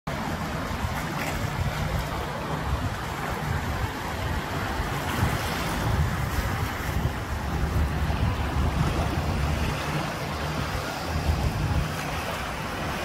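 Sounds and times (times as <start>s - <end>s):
small waves lapping on shore: 0.1s - 13.0s
wind buffeting microphone: 0.1s - 13.0s.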